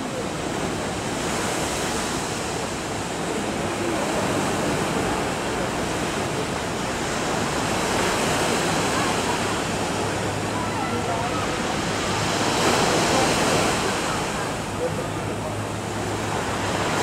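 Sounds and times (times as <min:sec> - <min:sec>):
sea rushing: 0:00.0 - 0:17.0
wind: 0:00.0 - 0:17.0.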